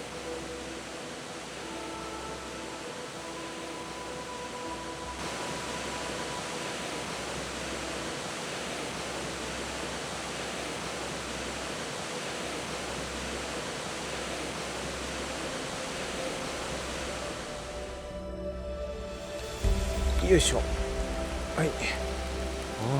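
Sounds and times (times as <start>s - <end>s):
stream water rushing: 0.0s - 22.9s.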